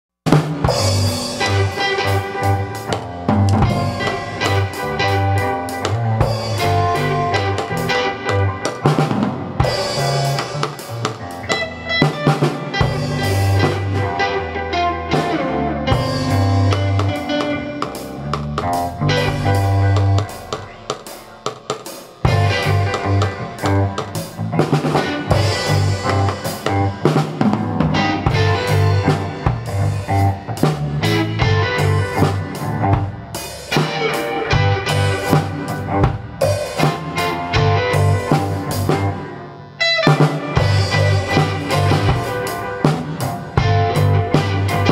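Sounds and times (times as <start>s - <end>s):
bass line: 0.3s - 44.9s
drum kit beat: 0.3s - 44.9s
higher instruments: 0.3s - 44.9s
held synthesizer and guitar tones: 0.4s - 44.9s.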